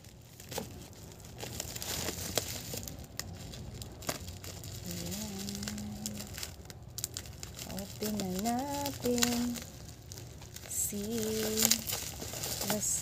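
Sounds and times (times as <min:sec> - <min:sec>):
bubble wrap crackling: 0:00.0 - 0:13.0.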